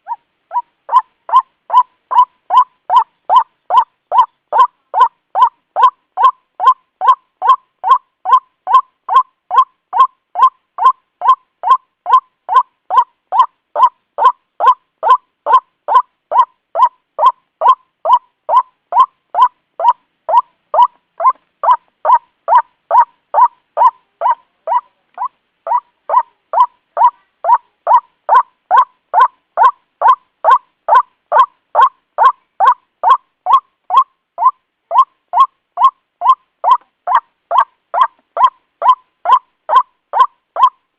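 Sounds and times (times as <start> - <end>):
waterhen calling: 0.0 - 40.8.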